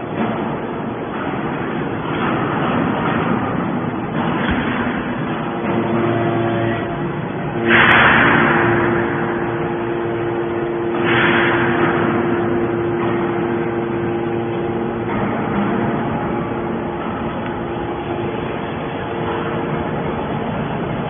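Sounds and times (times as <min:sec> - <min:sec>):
baler machine hum: 0:00.0 - 0:21.0
loud surges of machine noise: 0:00.0 - 0:21.0.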